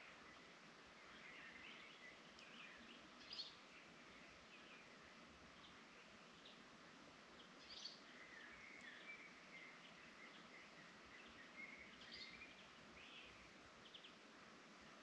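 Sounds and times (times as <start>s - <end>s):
bird chirps and warbles: 0.0s - 6.7s, 7.3s - 14.3s
soft steady hiss: 0.0s - 15.0s.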